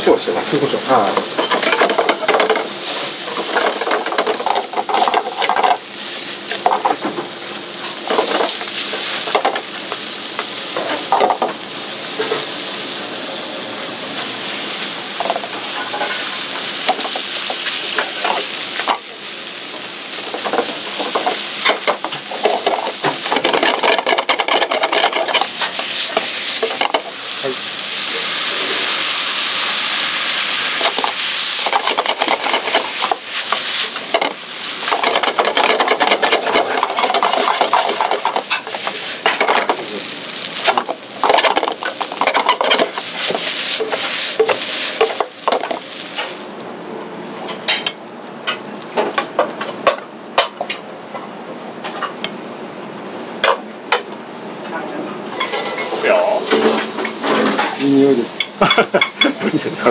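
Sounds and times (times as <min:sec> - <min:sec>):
meat sizzling in a frying pan: 0:00.2 - 0:46.6, 0:55.2 - 0:59.4.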